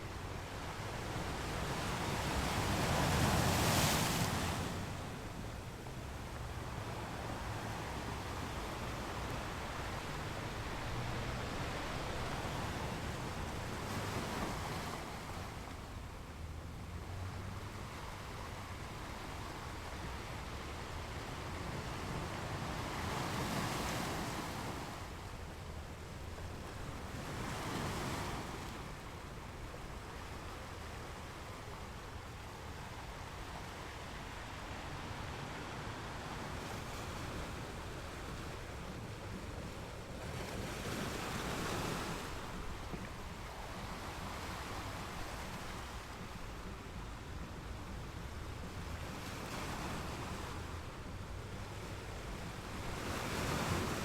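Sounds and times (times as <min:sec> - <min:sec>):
small waves breaking on sand: 0:00.0 - 0:15.9, 0:16.5 - 0:54.0
wind rumble on microphone: 0:00.0 - 0:54.0.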